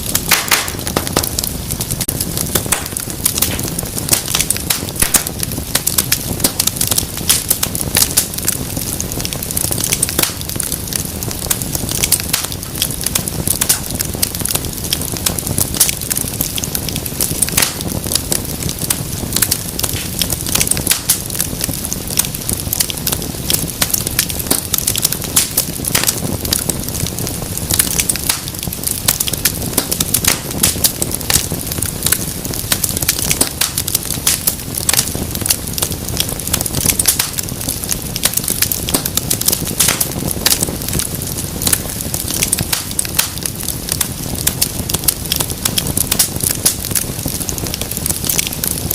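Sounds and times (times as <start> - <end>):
low rumble of flame: 0.0 - 48.9
wood fire crackling and popping: 0.0 - 48.9.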